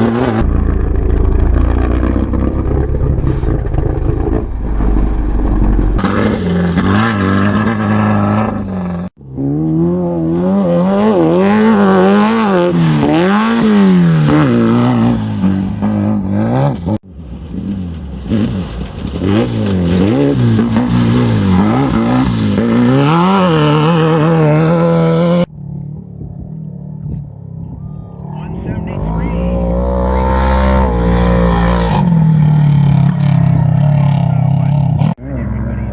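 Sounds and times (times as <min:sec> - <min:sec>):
race vehicle engines revving: 0:00.0 - 0:35.9.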